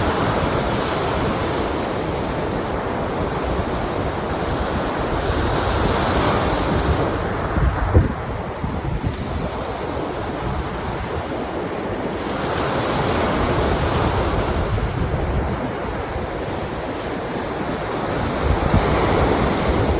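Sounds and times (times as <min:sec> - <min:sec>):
waves washing over rocks: 0:00.0 - 0:19.9.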